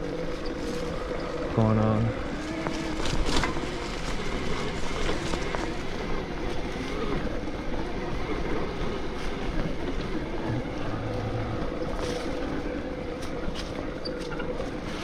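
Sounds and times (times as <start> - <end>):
bike tyres on wet leaves: 0.0 - 15.0.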